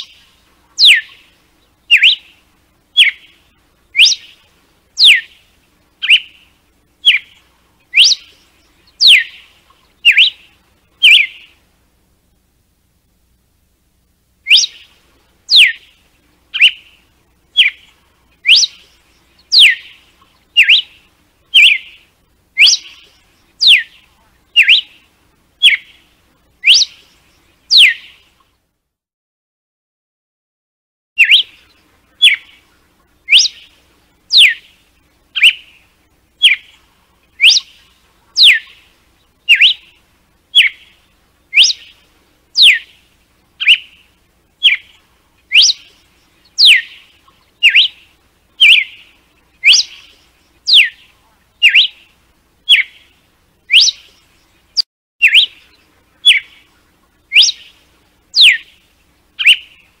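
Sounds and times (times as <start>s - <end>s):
bird whistling song: 0.0s - 11.6s, 14.4s - 28.4s, 31.2s - 60.0s.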